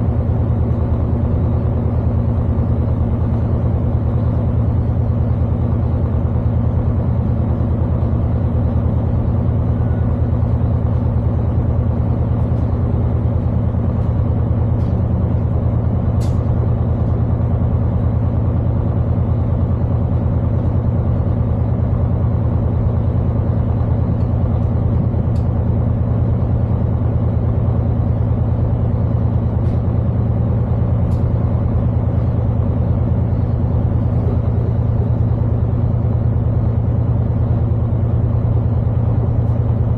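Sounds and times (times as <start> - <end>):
diesel train engines idling: 0.0 - 39.9.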